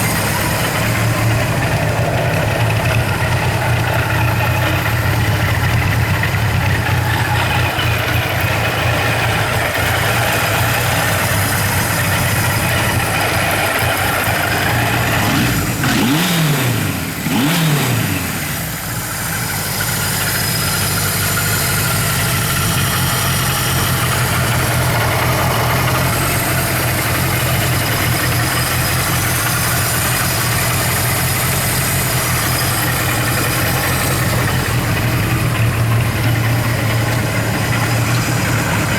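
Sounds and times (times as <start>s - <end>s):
motorcycle engine idling: 0.0s - 38.9s
motorcycle throttle blips: 0.0s - 38.9s.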